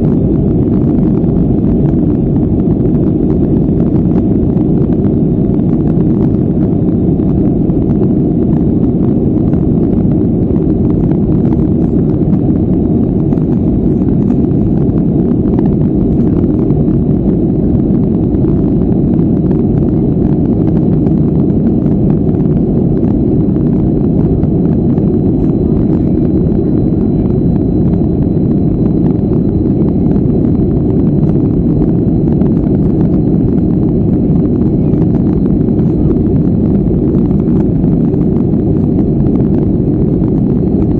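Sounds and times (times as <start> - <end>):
faint high whine: 0.0 - 40.9
jet engines rumbling in cabin: 0.0 - 40.9.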